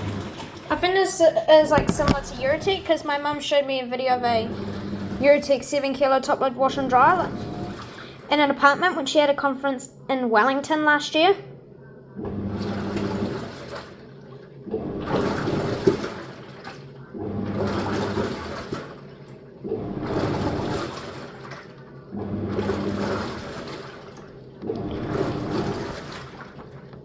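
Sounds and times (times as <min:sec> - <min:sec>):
washing machine agitating: 0:00.0 - 0:27.0.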